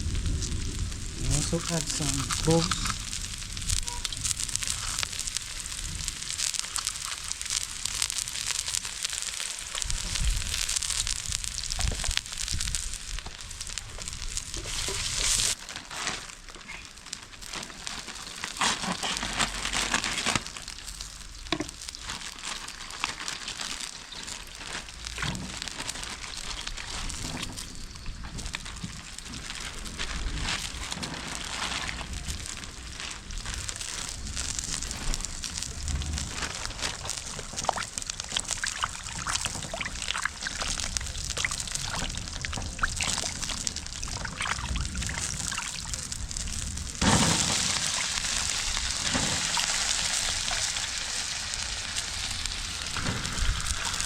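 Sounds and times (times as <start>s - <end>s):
oil sizzling in a pot: 0.0s - 15.6s, 16.3s - 54.0s
crackles and clicks: 0.0s - 54.0s.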